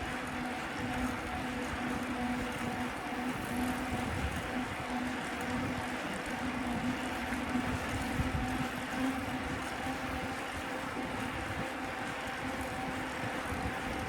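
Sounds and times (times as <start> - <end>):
constant low hum: 0.0 - 14.0
wind buffeting microphone: 0.0 - 14.0.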